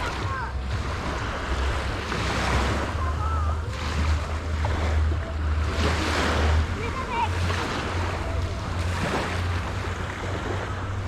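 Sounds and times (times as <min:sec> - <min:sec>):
waves washing onto beach: 0:00.0 - 0:11.0.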